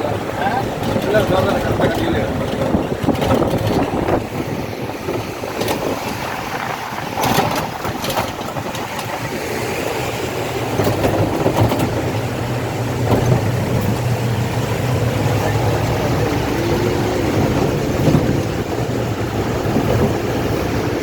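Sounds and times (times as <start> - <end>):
engine humming: 0.0 - 21.0
rushing water: 0.0 - 21.0
wind: 0.0 - 21.0.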